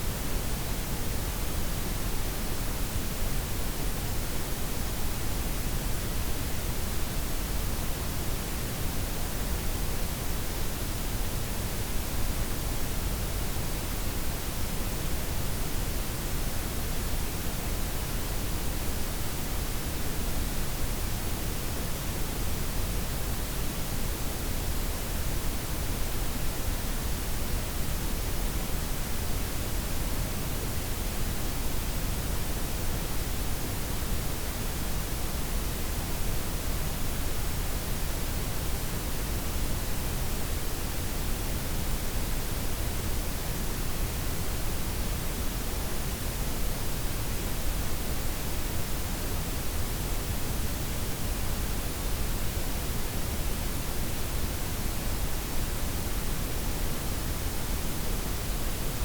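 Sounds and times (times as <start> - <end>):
steady broadband noise hiss: 0.0 - 59.0.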